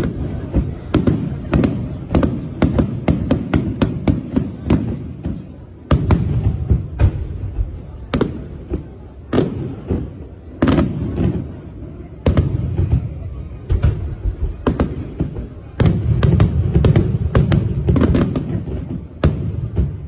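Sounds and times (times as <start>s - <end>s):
crackling firework bangs: 0.0s - 20.0s.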